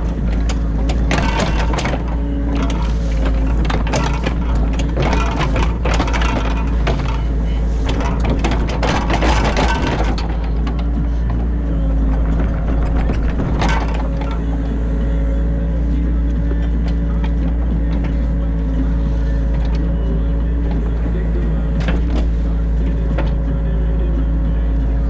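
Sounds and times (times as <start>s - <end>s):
diesel engine running: 0.0s - 25.0s
excavator crunching and knocking: 0.0s - 25.0s.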